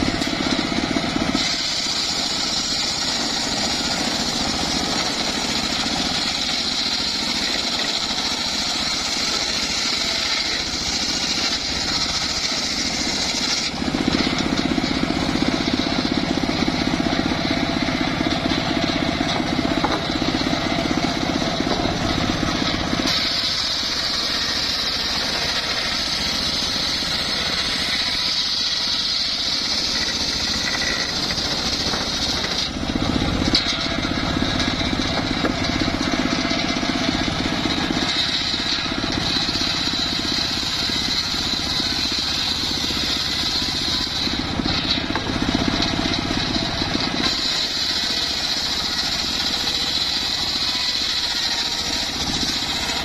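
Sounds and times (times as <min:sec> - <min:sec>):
sawmill ripping logs: 0:00.0 - 0:53.0.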